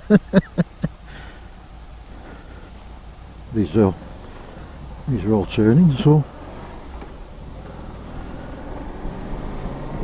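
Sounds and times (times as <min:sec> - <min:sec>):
motorcycle engine hum: 0:00.0 - 0:10.0
road or wind noise: 0:00.0 - 0:10.0.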